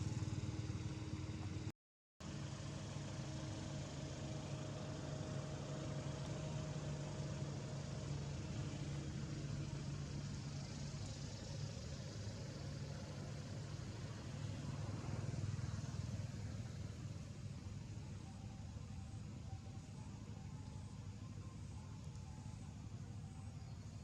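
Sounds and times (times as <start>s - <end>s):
vehicle engine idling hum: 0.0s - 24.0s.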